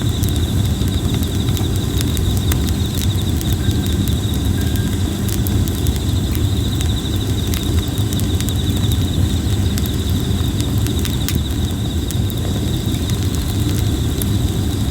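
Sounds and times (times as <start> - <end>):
campfire crackling and popping: 0.0 - 14.9
pulsing insect trill: 0.0 - 14.9.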